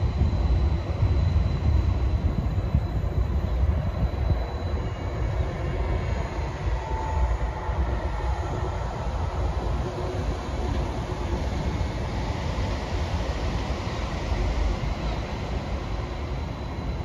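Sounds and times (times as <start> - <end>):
faint whine: 0.0 - 17.0
train wheels rumbling on rail: 0.0 - 17.0.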